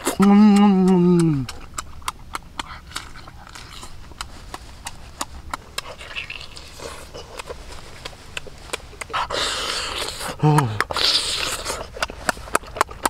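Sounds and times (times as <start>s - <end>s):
person chewing with mouth open: 0.0s - 13.0s.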